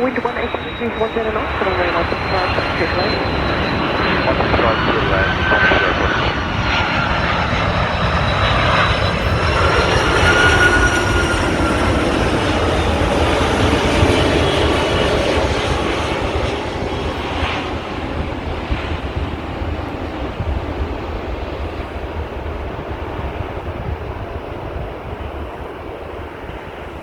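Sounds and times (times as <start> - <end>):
jet airliner engines whining: 0.0 - 27.0.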